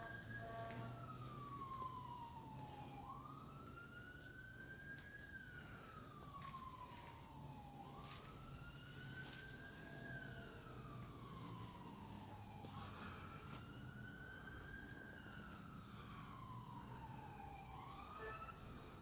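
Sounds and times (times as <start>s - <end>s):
faint emergency siren wailing: 0.0s - 19.0s.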